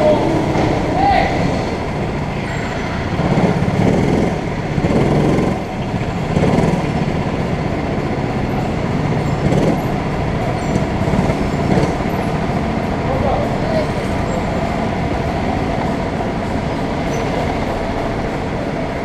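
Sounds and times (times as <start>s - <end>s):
go-kart engines rumbling: 0.0s - 19.0s.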